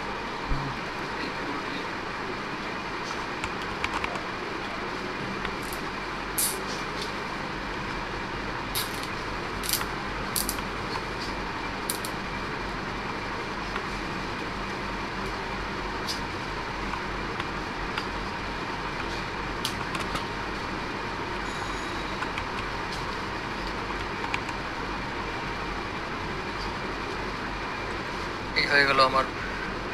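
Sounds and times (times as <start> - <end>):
background hum and hiss: 0.0 - 29.9.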